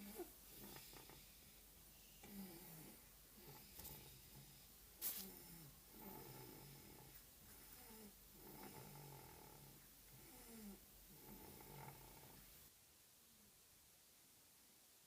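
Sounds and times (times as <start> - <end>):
person snoring faintly: 0.0 - 12.6.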